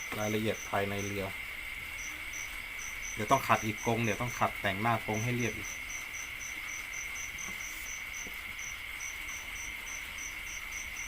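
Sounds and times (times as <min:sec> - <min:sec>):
insect trill: 0:00.0 - 0:11.0
pulsing insect chirp: 0:00.0 - 0:11.0.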